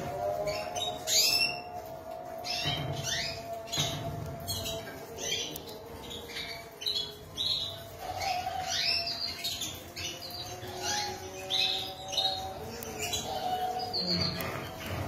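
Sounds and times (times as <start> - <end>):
canaries chirping: 0.0 - 15.0.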